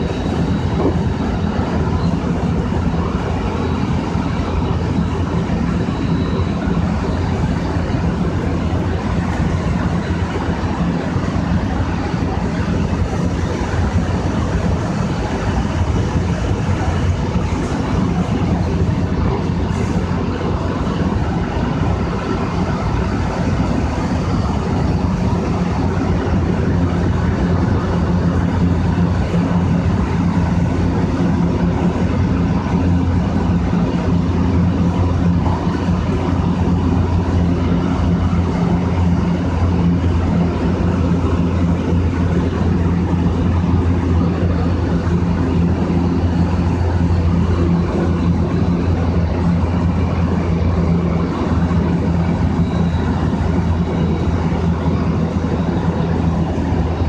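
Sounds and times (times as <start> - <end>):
train motors and wheels droning: 0.0 - 57.0.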